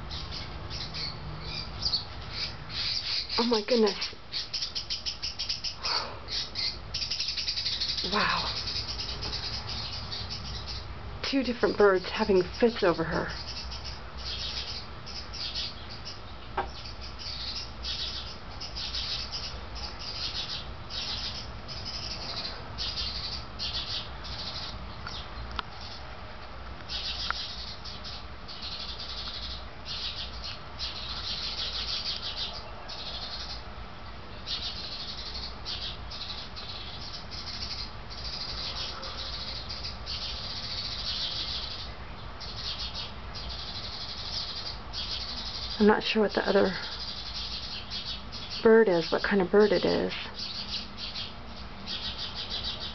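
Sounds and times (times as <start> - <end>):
birds giving alarm calls: 0.0 - 26.2, 26.8 - 52.9.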